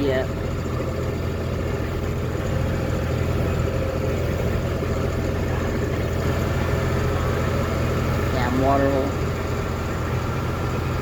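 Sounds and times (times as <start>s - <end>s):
baler machinery: 0.0s - 11.0s
tractor engine running: 0.0s - 11.0s.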